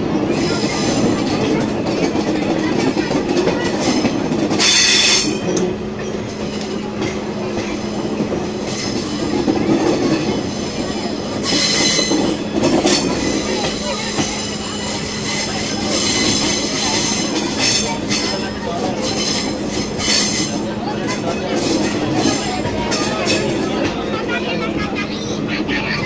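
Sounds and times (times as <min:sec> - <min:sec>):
train rumble: 0:00.0 - 0:26.0
train wheels squealing on rails: 0:00.2 - 0:25.9.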